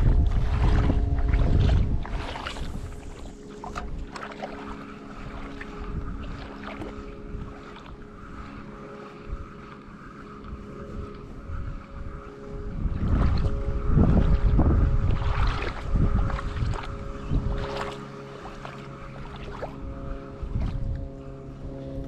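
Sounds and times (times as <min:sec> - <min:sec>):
distant motor hum: 0:00.0 - 0:22.0
wind on microphone: 0:00.0 - 0:22.0.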